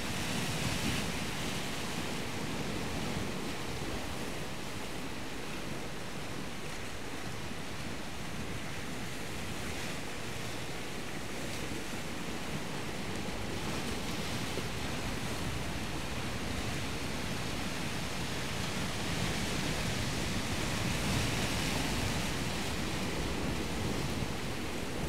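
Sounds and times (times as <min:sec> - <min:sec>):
surf breaking on shore: 0:00.0 - 0:25.0
wind on microphone: 0:00.0 - 0:25.0.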